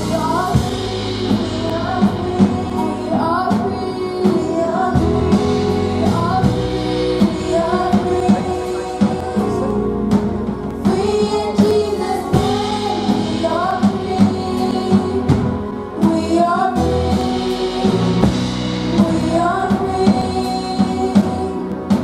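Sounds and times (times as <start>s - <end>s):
girl singing into a microphone: 0.0s - 10.0s, 10.7s - 18.0s, 18.9s - 22.0s
amplified accompaniment with beat: 0.0s - 22.0s
children's choir singing: 0.0s - 22.0s.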